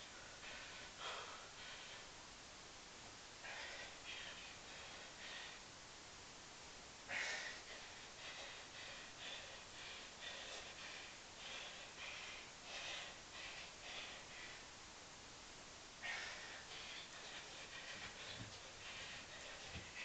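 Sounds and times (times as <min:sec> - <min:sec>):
man panting: 0:00.0 - 0:02.2, 0:03.4 - 0:05.7, 0:07.0 - 0:14.8, 0:16.0 - 0:20.0.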